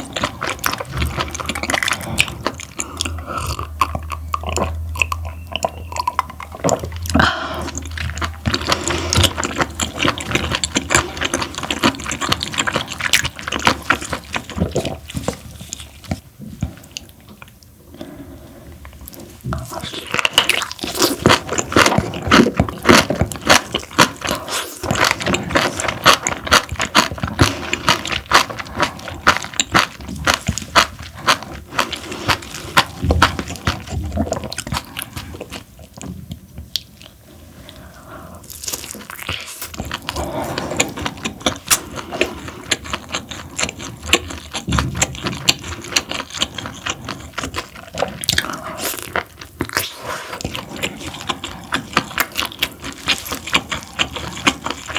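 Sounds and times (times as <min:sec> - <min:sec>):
close chewing with mouth clicks: 0:00.0 - 0:54.9.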